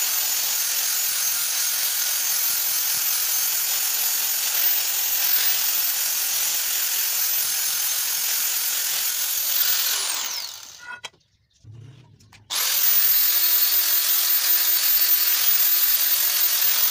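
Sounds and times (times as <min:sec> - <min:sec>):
angle grinder grinding metal: 0:00.0 - 0:11.1, 0:12.5 - 0:16.9.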